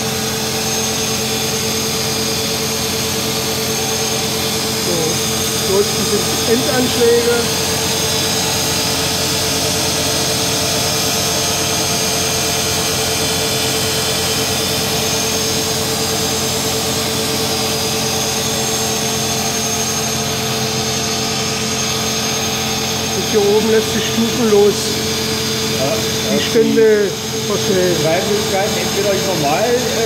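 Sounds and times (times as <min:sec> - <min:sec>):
grinding machine hum and whine: 0:00.0 - 0:30.0.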